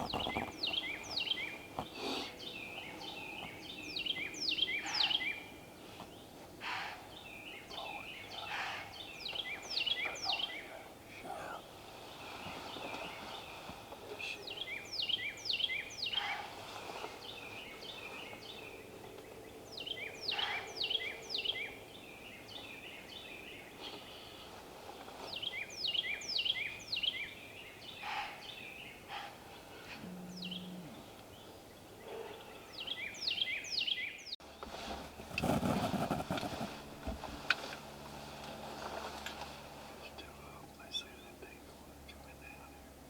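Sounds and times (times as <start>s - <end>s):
songbird singing: 0.0s - 37.9s, 38.5s - 43.0s.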